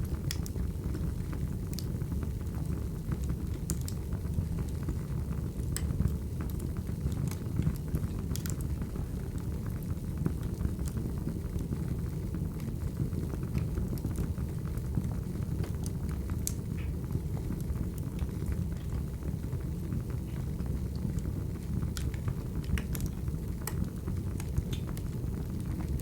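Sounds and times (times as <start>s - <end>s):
fire pops and crackles: 0.0s - 26.0s
burning logs rumbling: 0.1s - 26.0s.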